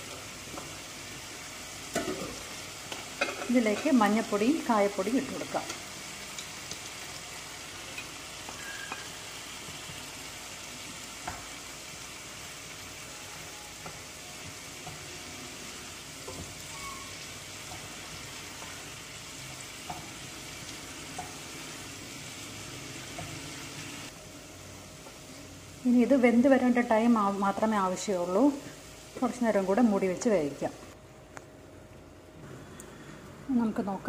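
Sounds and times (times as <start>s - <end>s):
cabbage sizzling in oil: 0.0s - 31.0s.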